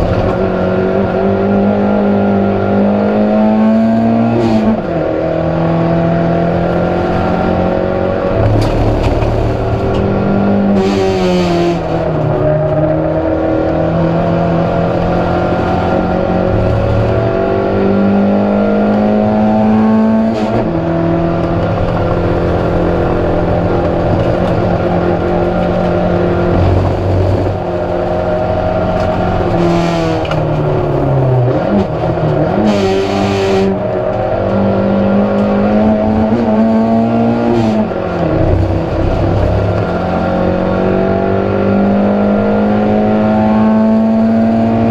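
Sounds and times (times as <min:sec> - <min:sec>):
race car engine revving hard: 0:00.0 - 0:44.9.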